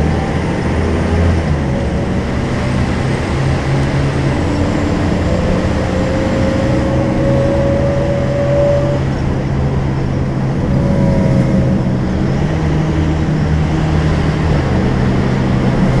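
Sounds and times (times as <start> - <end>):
bus engine drone: 0.0 - 16.0
thin engine whine: 0.0 - 16.0.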